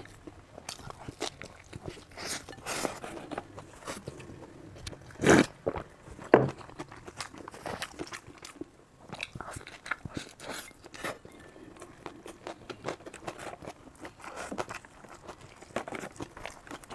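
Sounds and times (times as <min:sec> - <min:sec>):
chewing with crunches: 0:00.0 - 0:16.9.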